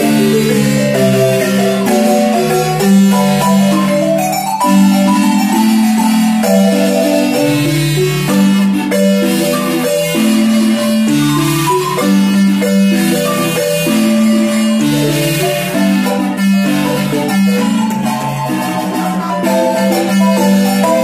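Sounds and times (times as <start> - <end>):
marimba ensemble playing: 0.0 - 21.0.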